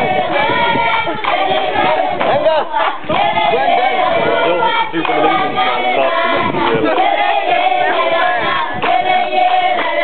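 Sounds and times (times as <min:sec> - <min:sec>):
children singing in chorus: 0:00.0 - 0:10.0.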